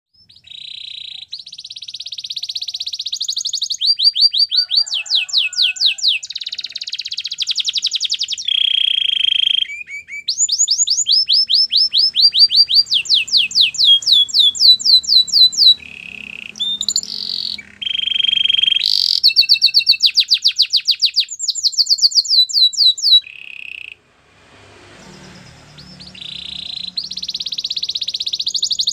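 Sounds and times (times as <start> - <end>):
canary singing: 0.2 - 28.9.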